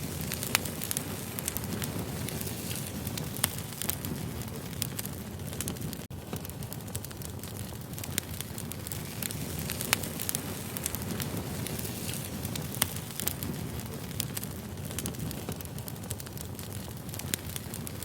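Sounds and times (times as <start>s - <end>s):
firewood crackles and pops: 0.0s - 18.0s
low rumble of flames: 0.0s - 18.0s.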